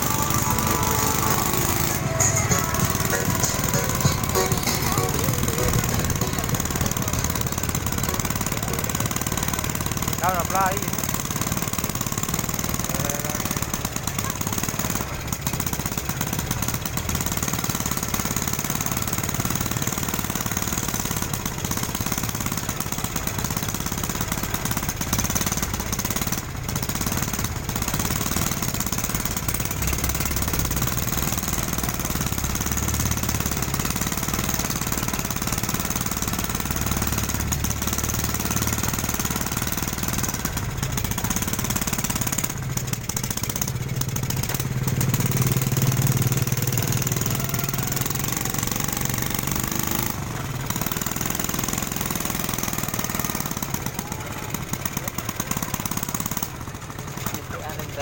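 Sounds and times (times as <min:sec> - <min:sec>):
machine rattling: 0:00.0 - 0:58.0.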